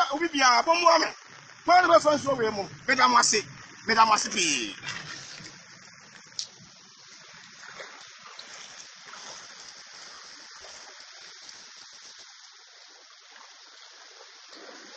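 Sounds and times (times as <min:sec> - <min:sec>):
rushing flowing water: 0:00.0 - 0:14.9.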